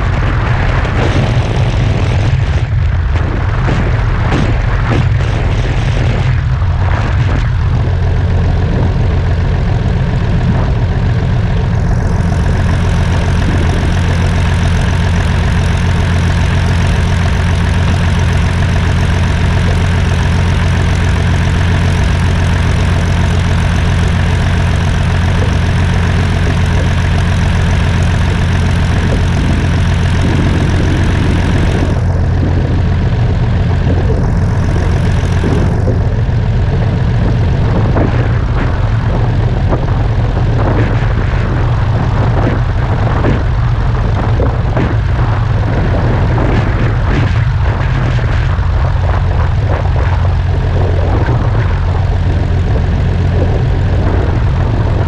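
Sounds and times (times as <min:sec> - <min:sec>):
propeller plane engine idling: 0:00.0 - 0:55.0.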